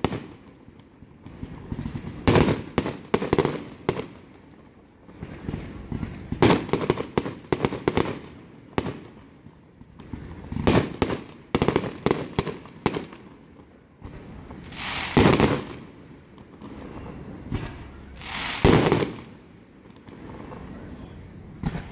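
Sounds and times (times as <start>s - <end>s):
fireworks exploding: 0.0s - 21.9s.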